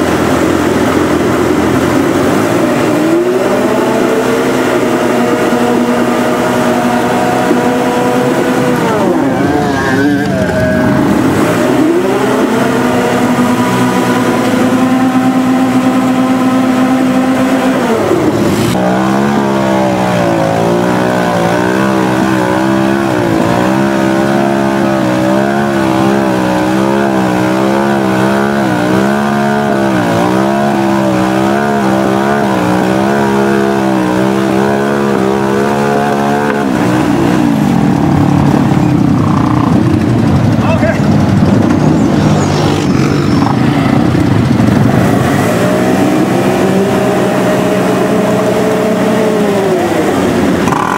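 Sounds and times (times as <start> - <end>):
quad engine revving hard: 0.0 - 50.9.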